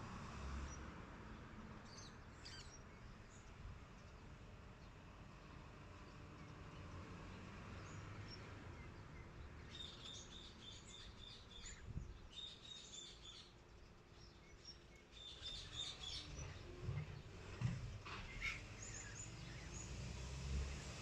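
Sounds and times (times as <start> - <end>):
small birds chirping: 0.6 - 5.1, 5.9 - 21.0.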